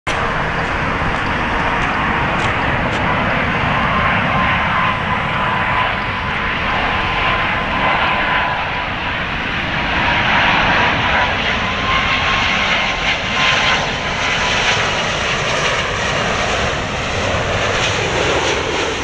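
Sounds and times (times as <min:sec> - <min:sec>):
jet engines rushing and whining: 0:00.1 - 0:19.0.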